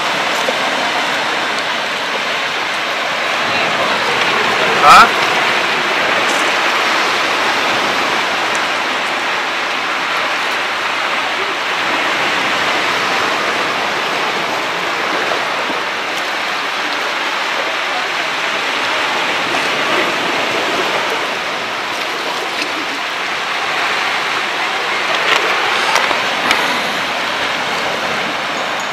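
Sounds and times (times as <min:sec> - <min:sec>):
surf breaking on rocky shore: 0:00.0 - 0:28.9.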